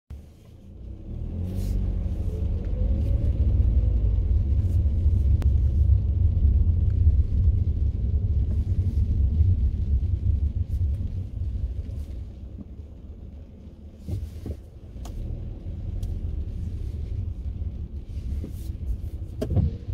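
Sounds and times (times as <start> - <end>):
car engine rumble: 0.1 - 19.9.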